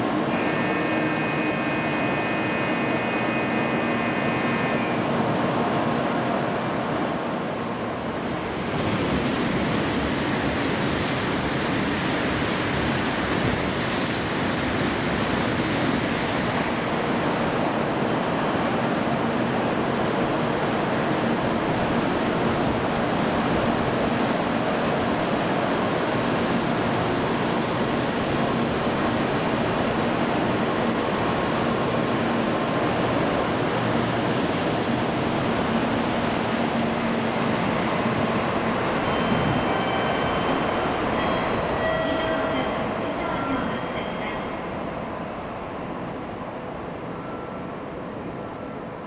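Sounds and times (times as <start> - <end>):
train rushing past: 3.8 - 19.4, 20.7 - 48.3.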